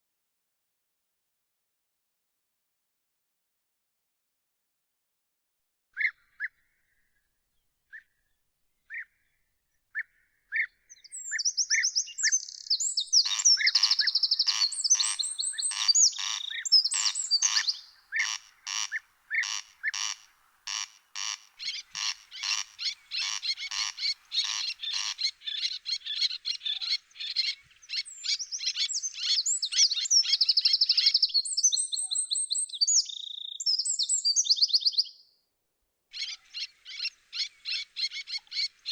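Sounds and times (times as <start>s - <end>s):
songbirds singing: 6.0s - 35.3s, 36.1s - 38.9s.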